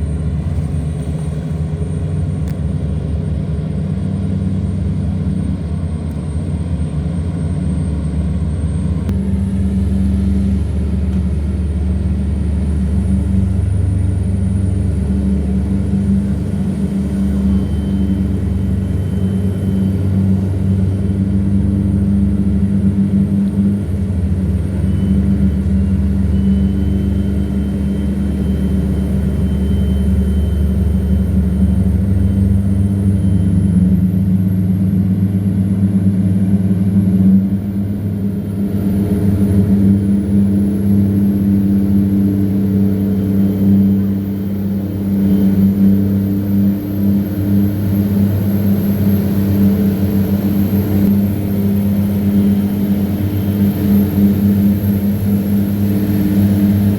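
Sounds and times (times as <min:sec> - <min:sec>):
diesel engine drone: 0:00.0 - 0:56.9.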